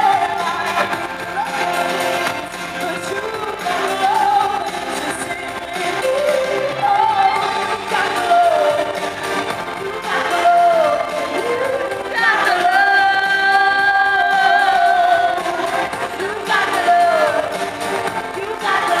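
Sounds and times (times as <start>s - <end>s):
pop band backing: 0.0s - 19.0s
woman singing: 0.0s - 19.0s.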